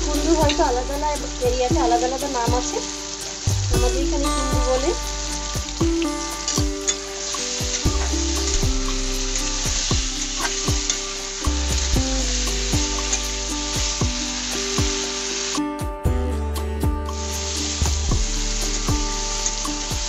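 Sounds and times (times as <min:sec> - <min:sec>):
vegetables sizzling in hot oil: 0:00.0 - 0:15.7, 0:17.0 - 0:20.0.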